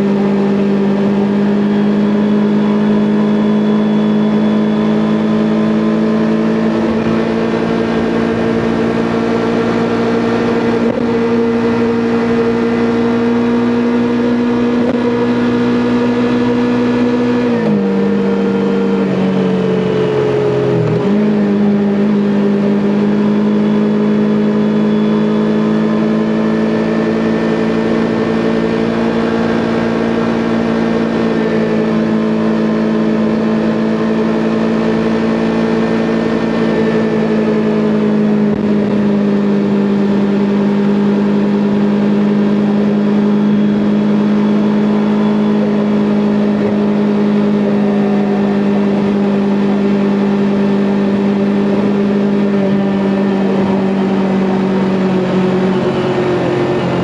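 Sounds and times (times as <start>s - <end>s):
motorcycle engine at steady revs: 0.0s - 57.0s.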